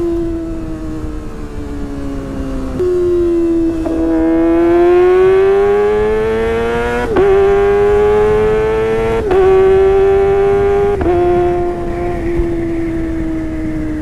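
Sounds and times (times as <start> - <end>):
motorcycle engine revving high: 0.0 - 14.0.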